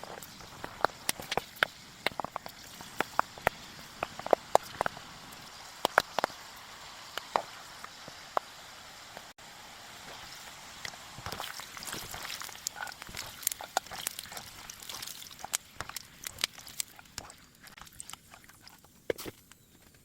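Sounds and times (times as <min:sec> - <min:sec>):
chickpeas popping in a pan: 0:00.0 - 0:09.3, 0:10.0 - 0:20.0
faint steady hiss: 0:00.0 - 0:20.0.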